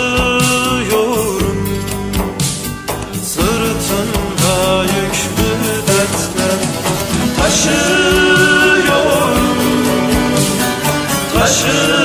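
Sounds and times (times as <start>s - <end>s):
song with instrumental accompaniment: 0.0s - 12.0s.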